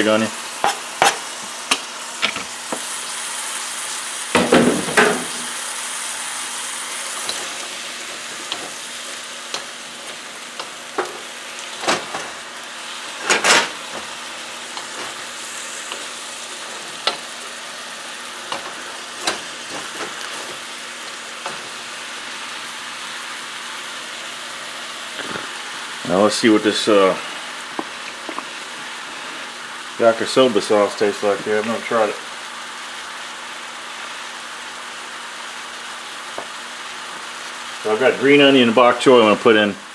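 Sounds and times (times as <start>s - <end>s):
vegetables sizzling in a wok: 0.0s - 39.9s.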